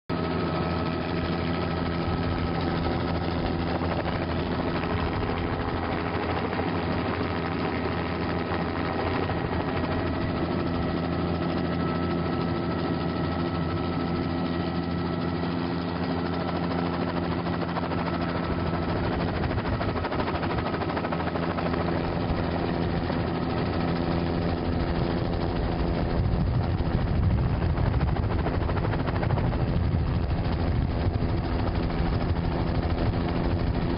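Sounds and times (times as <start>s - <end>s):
aircraft engine droning: 0.1s - 33.9s.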